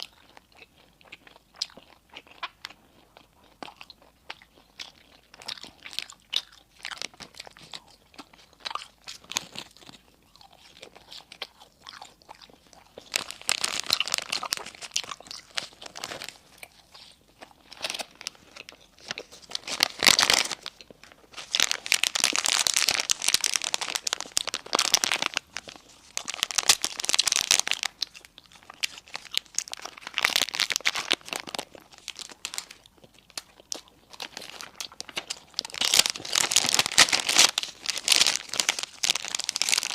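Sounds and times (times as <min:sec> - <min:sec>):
crunchy chewing of food: 0:00.0 - 0:39.9
food wrapper crinkling: 0:00.0 - 0:39.9.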